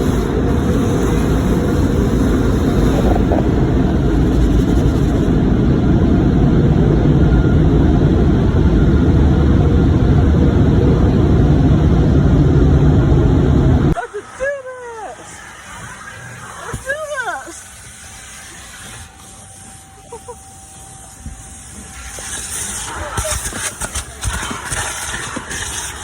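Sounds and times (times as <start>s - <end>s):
car wash rushing noise: 0.0s - 26.0s.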